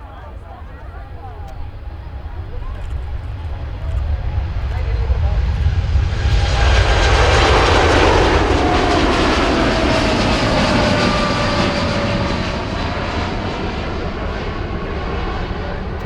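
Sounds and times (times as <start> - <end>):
jet airliner engine whine: 0.0 - 16.0.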